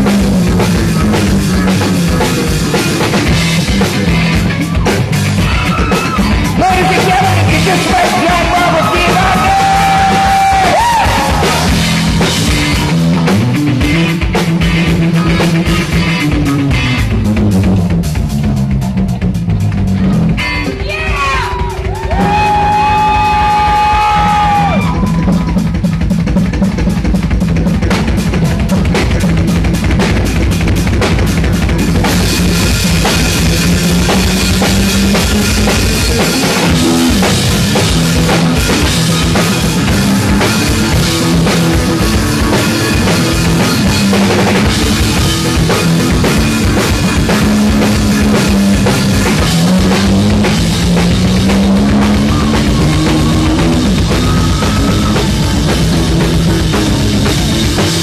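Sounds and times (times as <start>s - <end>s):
bass guitar playing low lines: 0.0s - 58.0s
drum kit groove: 0.0s - 58.0s.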